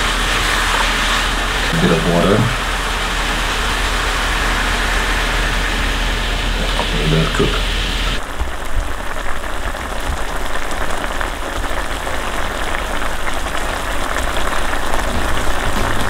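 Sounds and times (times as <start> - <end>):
stew bubbling in frying pan: 0.0 - 16.0.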